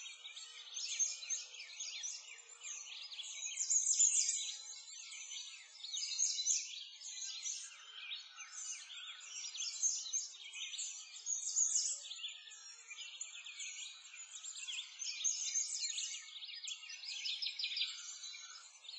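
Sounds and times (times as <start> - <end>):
small birds chirping chorus: 0.0 - 18.9.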